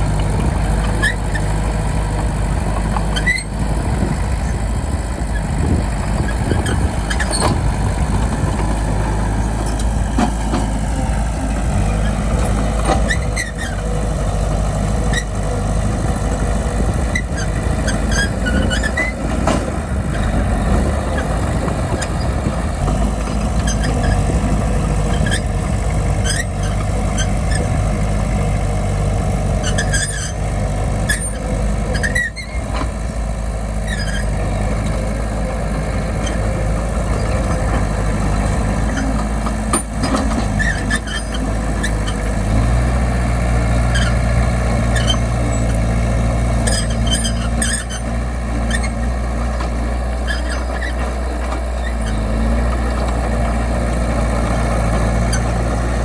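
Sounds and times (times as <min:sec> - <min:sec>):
bulldozer diesel engine running: 0:00.0 - 0:56.0
metallic squeaks and clanks: 0:00.8 - 0:01.6, 0:02.8 - 0:03.6, 0:05.3 - 0:16.0, 0:17.1 - 0:27.9, 0:29.5 - 0:33.1, 0:33.8 - 0:43.0, 0:43.7 - 0:56.0.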